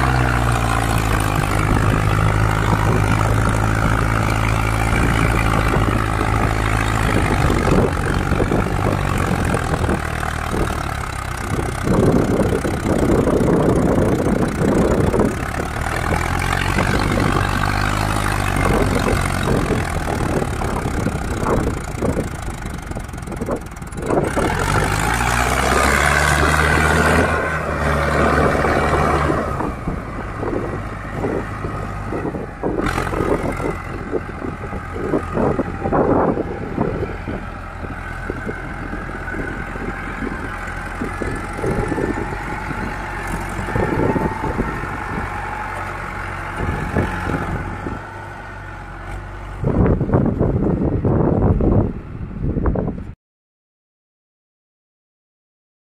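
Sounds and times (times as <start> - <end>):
tractor diesel engine working hard: 0.0 - 52.9.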